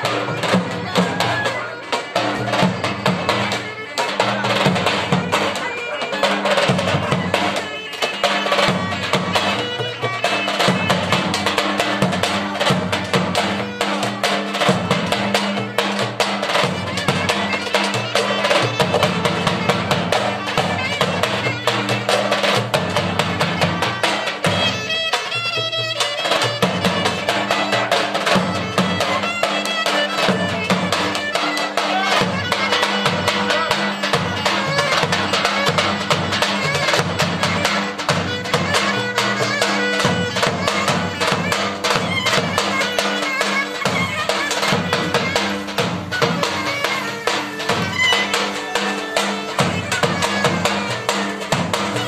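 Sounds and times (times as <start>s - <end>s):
reedy wind instrument melody: 0.0s - 52.0s.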